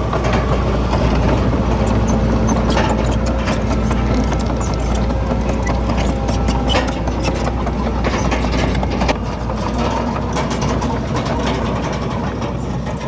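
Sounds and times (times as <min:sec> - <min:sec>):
heavy diesel engine running: 0:00.0 - 0:13.0
metal clanks and knocks: 0:00.1 - 0:13.0.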